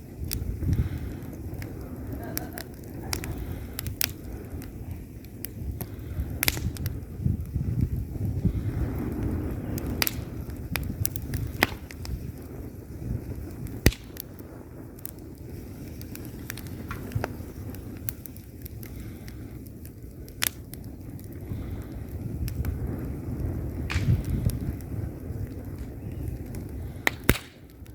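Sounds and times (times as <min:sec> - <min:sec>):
fire crackles and pops: 0:00.0 - 0:27.9
fire flames rumbling: 0:00.0 - 0:27.9.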